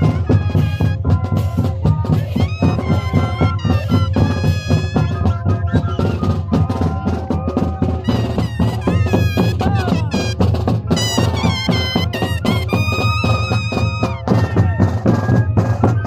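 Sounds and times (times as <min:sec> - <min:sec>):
cane flutes playing melody: 0:00.0 - 0:16.0
fast drum beat: 0:00.0 - 0:16.0.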